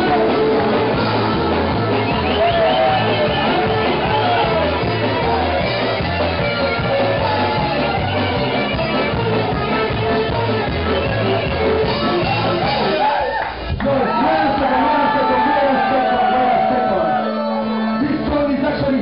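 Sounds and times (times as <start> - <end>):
live band playing punk music: 0.0 - 19.0.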